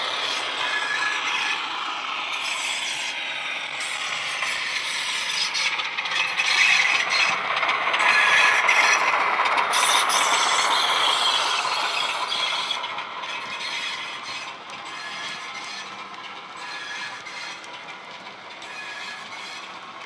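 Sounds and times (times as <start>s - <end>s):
diesel engine sound from speaker: 0.0s - 4.8s, 5.5s - 20.0s
model train wheels rattling: 0.0s - 20.0s.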